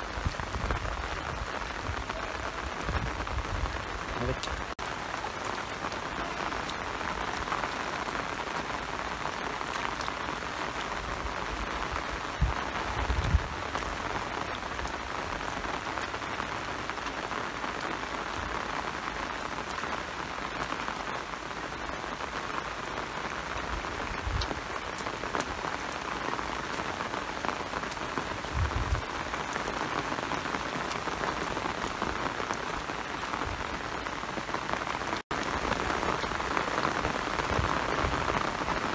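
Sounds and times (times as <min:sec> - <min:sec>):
steady rain on wet field: 0:00.0 - 0:38.9.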